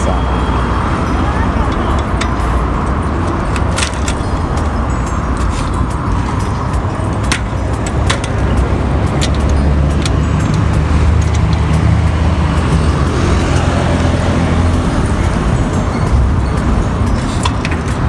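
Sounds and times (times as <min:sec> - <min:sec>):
vehicle engine rumble passing: 0:00.0 - 0:18.0.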